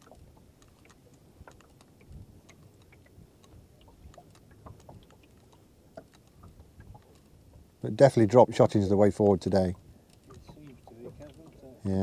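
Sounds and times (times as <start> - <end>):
low wind rumble: 0.0 - 12.0
small waves knocking against boat hull: 0.0 - 12.0.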